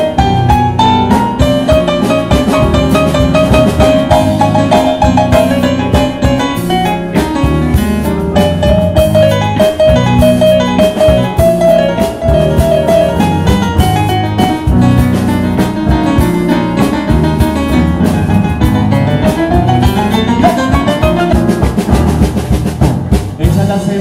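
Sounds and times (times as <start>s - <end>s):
live band playing salsa: 0.0s - 24.0s.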